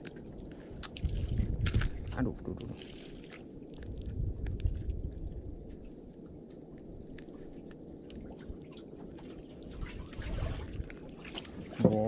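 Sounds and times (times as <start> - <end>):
low rumble: 0.0 - 11.6
wet squishing: 0.0 - 11.8.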